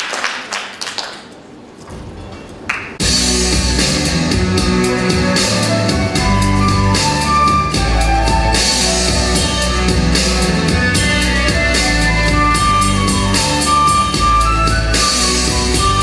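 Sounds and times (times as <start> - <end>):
folk-rock instrumental with drums: 3.0 - 16.0.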